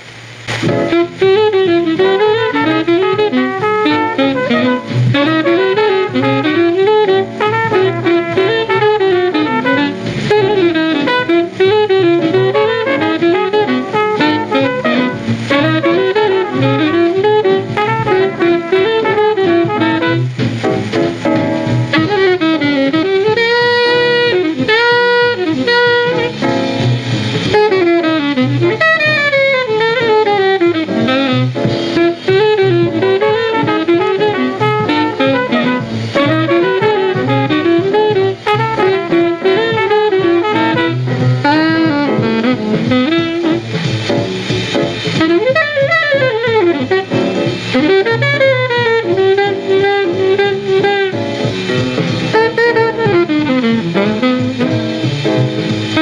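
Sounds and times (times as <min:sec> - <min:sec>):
alto saxophone: 0:00.0 - 0:56.0
bebop jazz record: 0:00.0 - 0:56.0
drums: 0:00.0 - 0:56.0.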